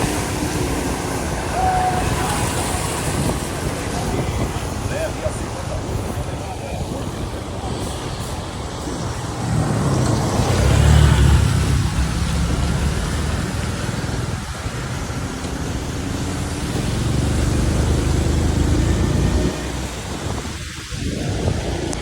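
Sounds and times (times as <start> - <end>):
car engine and road rumble: 0.0 - 22.0
tyre hiss on wet road: 0.0 - 22.0.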